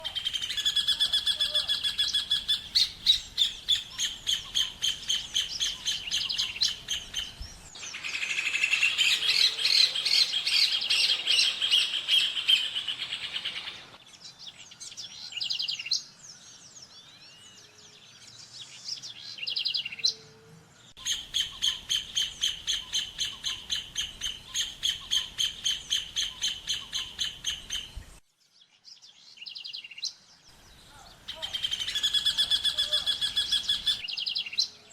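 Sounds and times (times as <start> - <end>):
scattered bird chirps: 0.0 - 16.1, 20.9 - 34.8
bird ringing song: 0.1 - 34.9.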